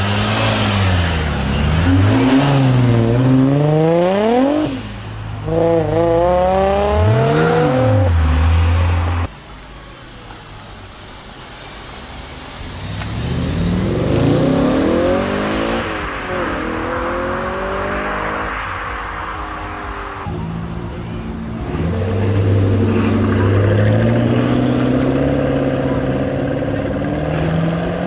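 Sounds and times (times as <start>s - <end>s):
car engines revving and accelerating: 0.0s - 9.3s, 11.6s - 28.0s.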